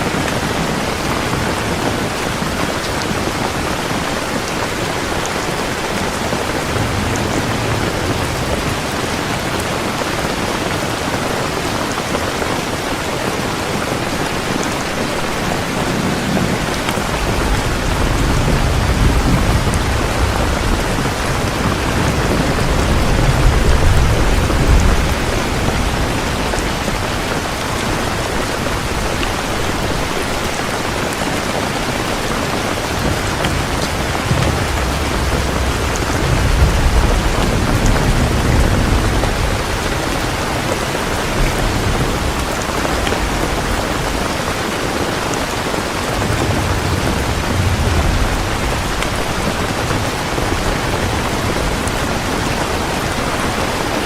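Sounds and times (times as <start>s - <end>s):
heavy rain falling: 0.0s - 54.0s
low thunder rumble: 4.7s - 11.1s, 14.4s - 30.5s, 31.7s - 53.8s.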